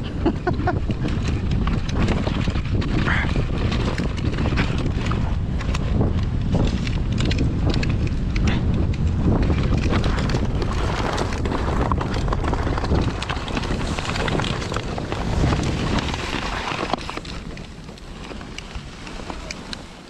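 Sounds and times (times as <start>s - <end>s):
sled runners scraping snow: 0.0s - 20.0s
wind buffeting microphone: 0.0s - 20.0s
small clicks and rattles: 0.4s - 20.0s.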